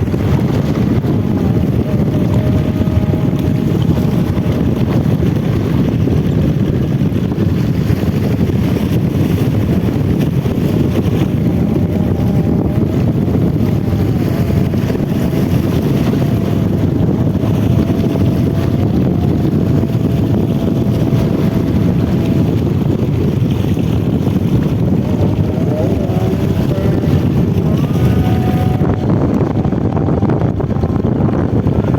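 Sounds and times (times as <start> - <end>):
boat engine rumbling: 0.0 - 31.9
wind buffeting microphone: 0.0 - 31.9.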